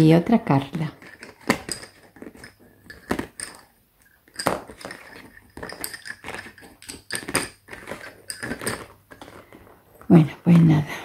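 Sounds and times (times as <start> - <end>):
lace bobbins clacking: 0.4 - 10.8.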